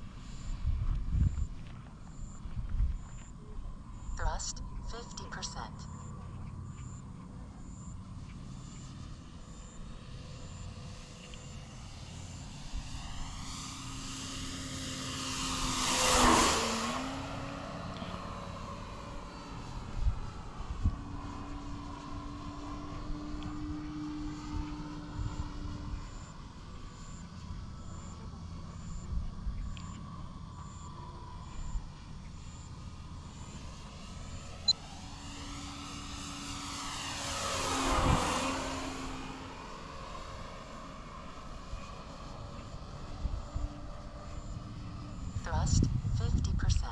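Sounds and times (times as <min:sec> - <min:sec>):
model plane propeller flying past: 0:00.0 - 0:46.9.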